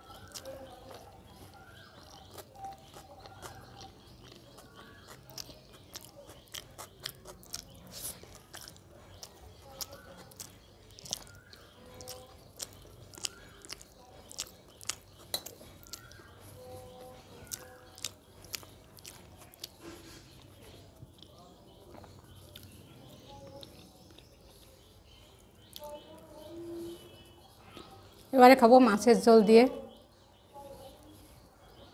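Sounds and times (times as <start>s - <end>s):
person chewing with wet smacking: 0.0s - 28.3s.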